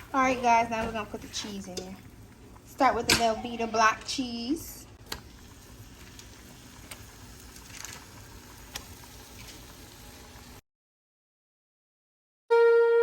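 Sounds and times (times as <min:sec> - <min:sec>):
sauce sizzling and bubbling: 0:00.0 - 0:10.6.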